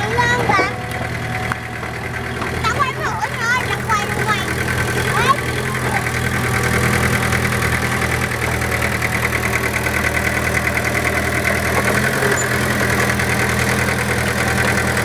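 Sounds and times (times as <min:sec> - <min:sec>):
vehicle engine humming with pulsing: 0:00.0 - 0:15.0.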